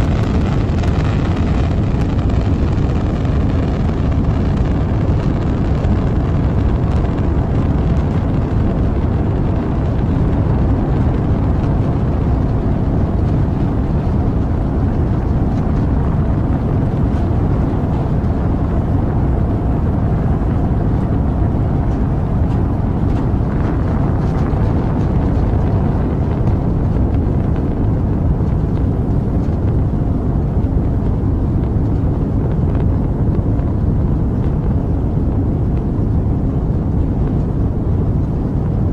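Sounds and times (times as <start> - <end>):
rocket engines roaring: 0.0 - 38.9.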